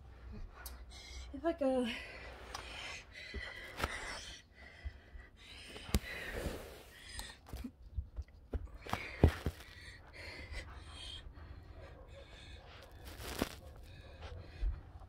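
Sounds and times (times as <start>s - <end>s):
rustling of movement: 2.0s - 15.0s.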